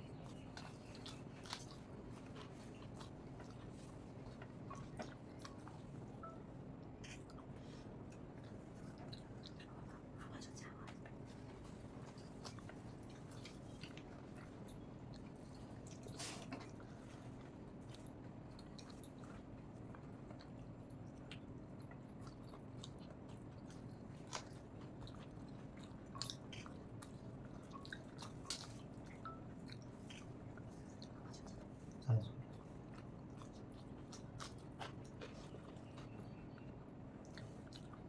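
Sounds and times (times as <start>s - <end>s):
close chewing of food: 0.0s - 38.0s
steady low hum: 0.0s - 38.0s.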